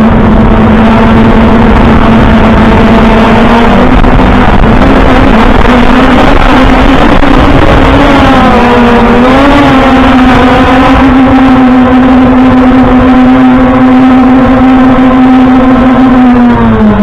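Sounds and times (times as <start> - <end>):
drone propellers whining: 0.0 - 17.0
wind rumble on microphone: 0.0 - 17.0.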